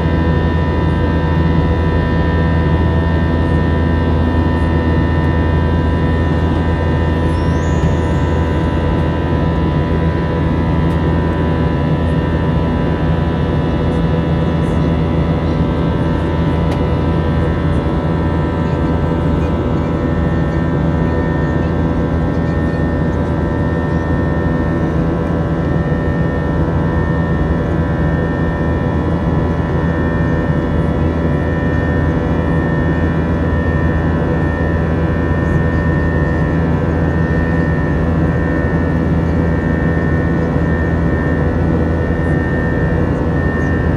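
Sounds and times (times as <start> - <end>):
jet engine cabin rumble with whine: 0.0 - 43.9.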